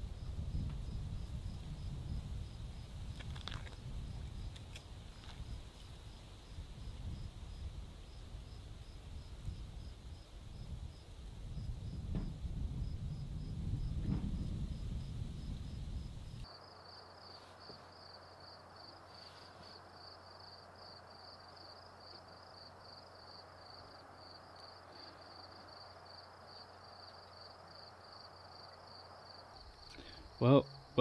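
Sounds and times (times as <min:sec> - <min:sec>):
cricket chirping: 0:00.0 - 0:31.0
faint evening hiss: 0:00.0 - 0:31.0.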